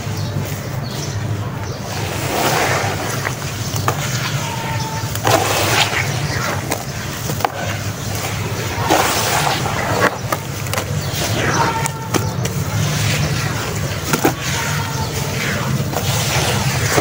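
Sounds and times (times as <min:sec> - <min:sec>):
gritty crunching: 0:00.0 - 0:17.0
watery squelching: 0:00.0 - 0:17.0.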